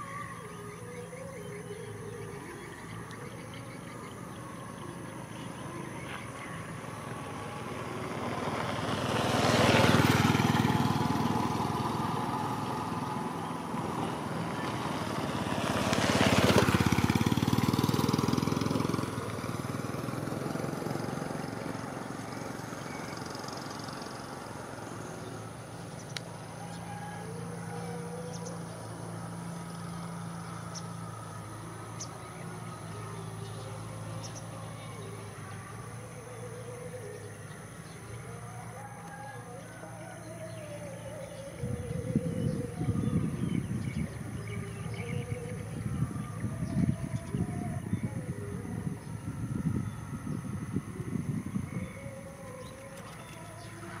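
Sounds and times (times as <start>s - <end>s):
faint low engine hum: 0.0s - 54.0s
vehicles passing by: 0.0s - 54.0s.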